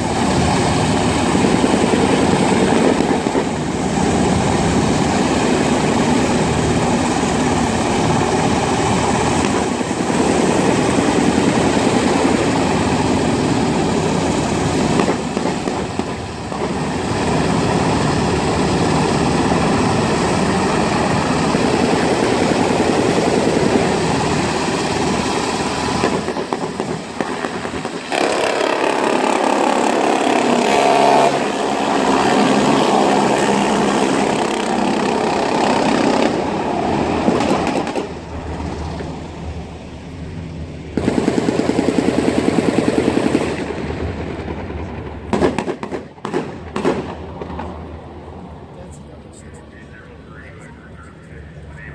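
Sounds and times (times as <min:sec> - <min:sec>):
helicopter rotor and turbine: 0:00.0 - 0:51.9.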